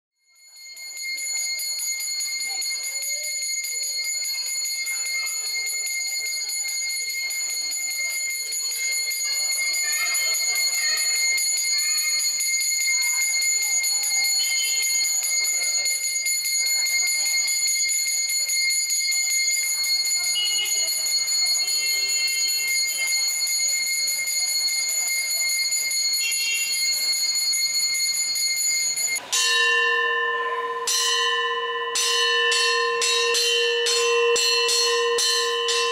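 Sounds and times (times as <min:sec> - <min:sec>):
temple bells ringing: 0:00.4 - 0:35.9
faint voices: 0:00.5 - 0:35.9.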